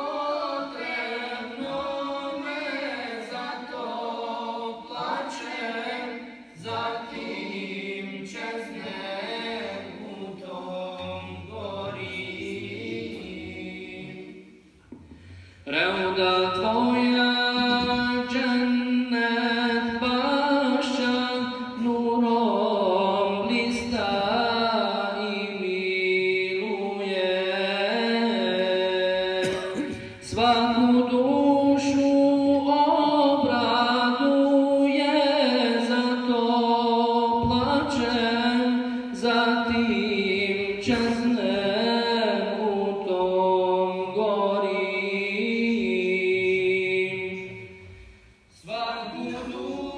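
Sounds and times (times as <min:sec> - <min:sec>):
man singing religious chant: 0:00.0 - 0:14.4, 0:15.6 - 0:49.9.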